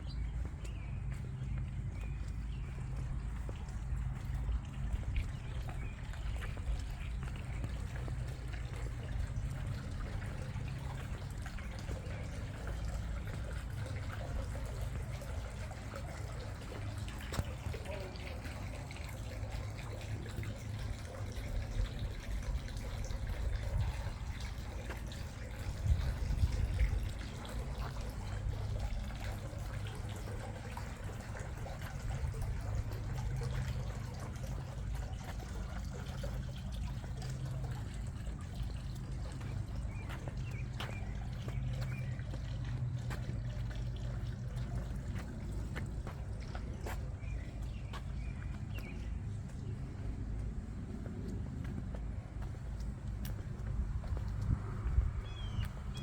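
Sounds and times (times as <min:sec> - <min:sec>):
steady low rumble: 0:00.0 - 0:56.0
water trickling: 0:00.0 - 0:56.0.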